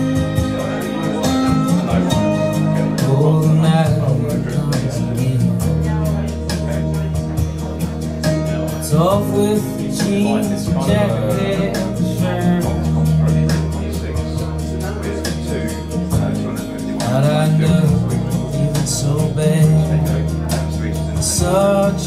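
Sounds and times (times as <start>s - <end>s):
song over speakers: 0.0s - 22.0s.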